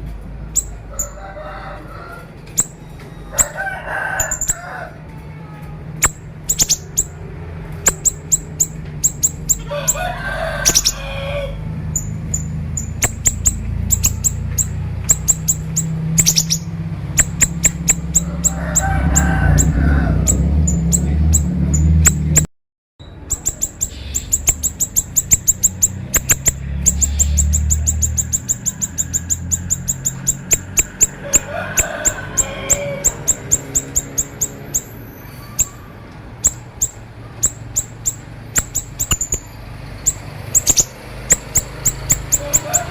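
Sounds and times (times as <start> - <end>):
bird rapid high chirps: 0.5 - 1.1, 2.6 - 3.6, 4.2 - 4.6, 6.0 - 7.2, 7.8 - 22.4, 23.0 - 35.8, 36.4 - 42.9.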